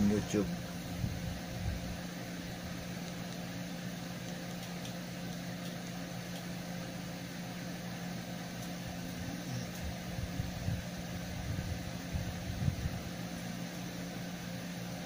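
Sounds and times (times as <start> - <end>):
room noise hum and hiss: 0.0 - 15.0.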